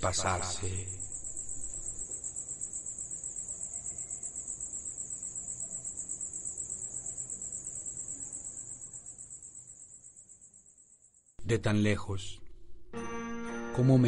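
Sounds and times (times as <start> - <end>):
cricket chirping: 0.0 - 13.2.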